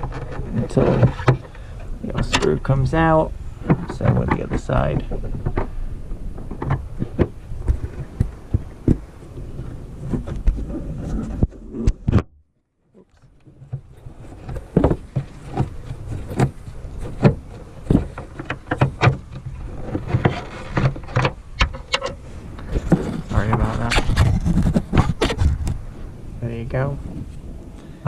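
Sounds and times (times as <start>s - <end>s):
wind buffeting microphone: 0.0s - 12.2s, 13.3s - 28.0s.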